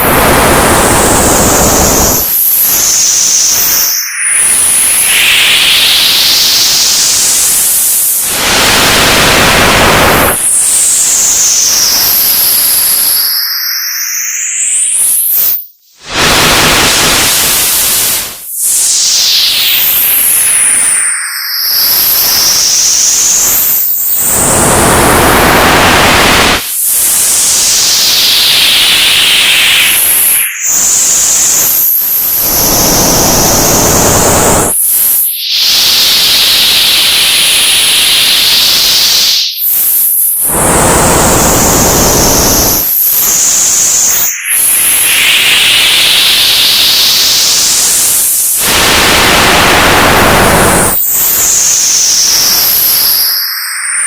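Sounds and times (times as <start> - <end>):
tv static hiss: 0.0 - 13.4, 16.0 - 54.0.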